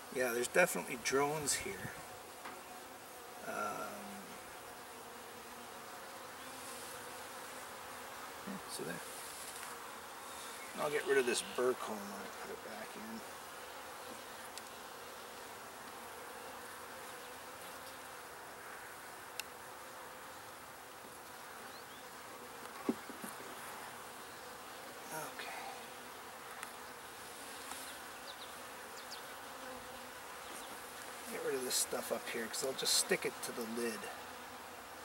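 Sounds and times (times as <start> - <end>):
honeybees humming: 0.0 - 35.0.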